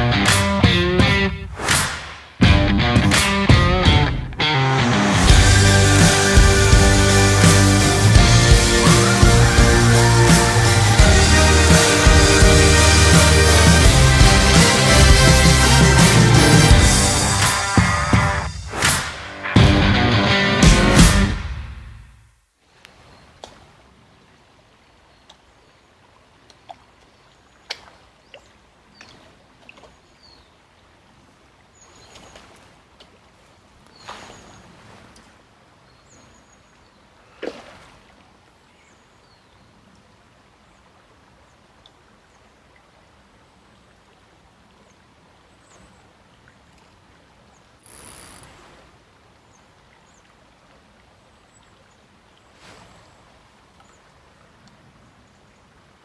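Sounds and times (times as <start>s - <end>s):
flowing water: 4.2s - 19.4s, 22.6s - 56.0s.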